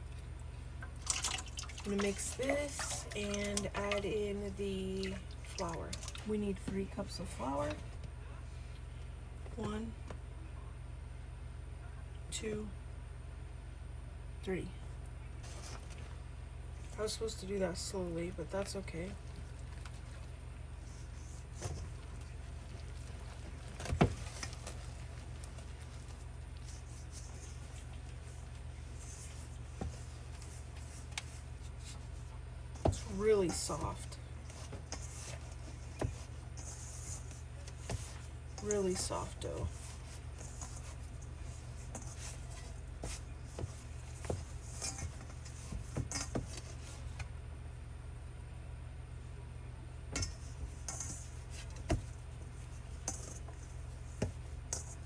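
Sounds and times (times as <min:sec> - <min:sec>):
dough being worked in a bowl: 0:00.0 - 0:09.9, 0:15.3 - 0:48.3, 0:49.4 - 0:55.0
steady low hum: 0:00.0 - 0:55.0.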